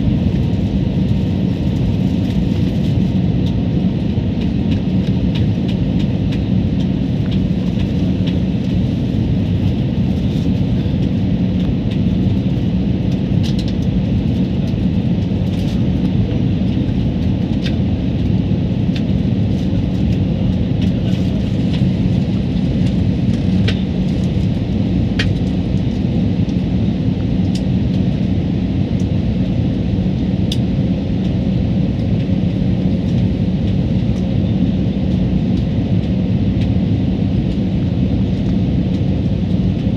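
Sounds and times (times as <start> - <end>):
jet engines roaring: 0.0 - 39.9
low steady hum: 0.0 - 39.9.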